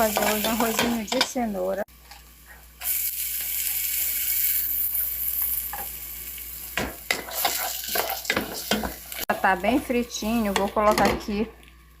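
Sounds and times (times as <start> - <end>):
vegetables sizzling in hot oil: 0.0 - 11.5.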